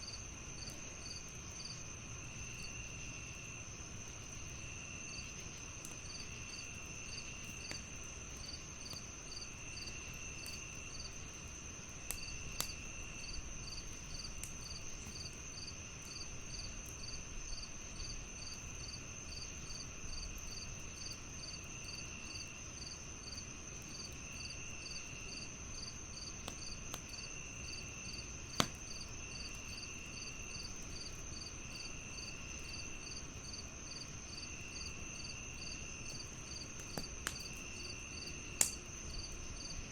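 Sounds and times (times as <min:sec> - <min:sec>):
crickets chirping: 0:00.0 - 0:39.9
wood fire crackling and popping: 0:03.7 - 0:22.0, 0:23.4 - 0:39.9.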